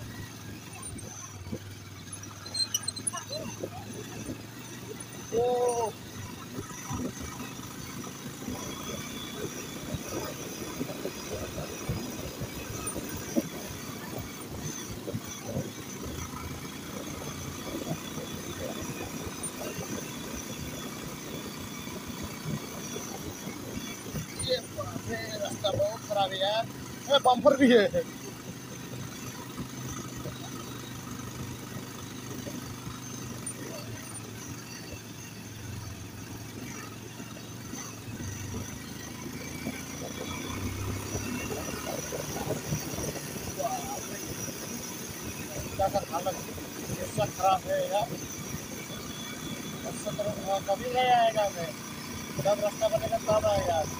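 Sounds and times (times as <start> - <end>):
low thumps from bumpy road: 0.0 - 53.9
motorcycle engine running: 0.0 - 53.9.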